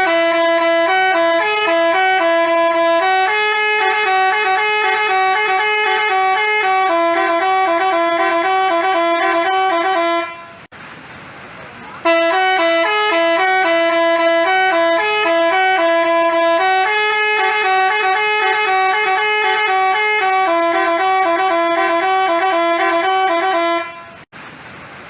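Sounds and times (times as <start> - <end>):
bus horn playing melody: 0.0 - 10.7, 12.0 - 24.3.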